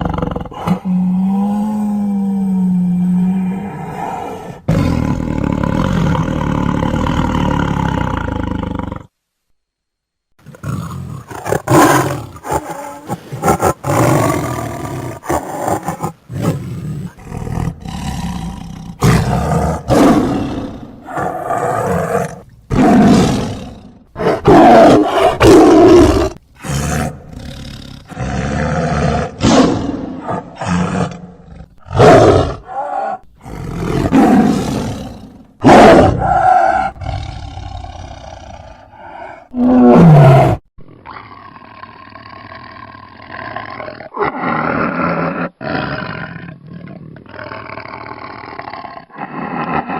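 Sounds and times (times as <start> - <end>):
tiger roaring and growling: 0.0 - 9.1, 10.4 - 49.9.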